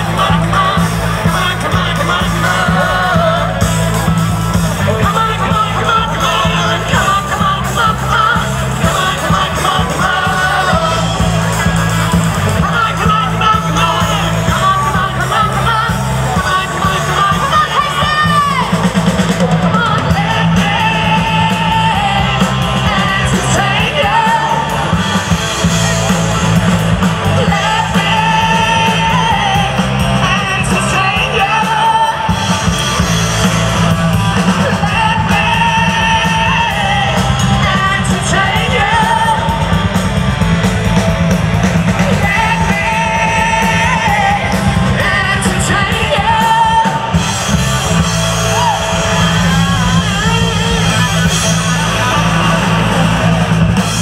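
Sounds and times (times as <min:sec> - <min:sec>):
woman singing lead: 0:00.0 - 0:25.3, 0:27.1 - 0:33.2, 0:33.8 - 0:40.0, 0:41.8 - 0:54.0
bass guitar: 0:00.0 - 0:54.0
drums: 0:00.0 - 0:54.0
electric guitar: 0:00.0 - 0:54.0.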